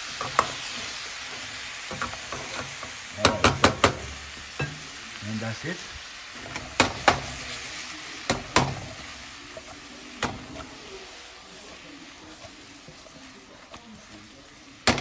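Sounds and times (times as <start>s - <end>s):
chicken wings sizzling in a pot: 0.0s - 15.0s.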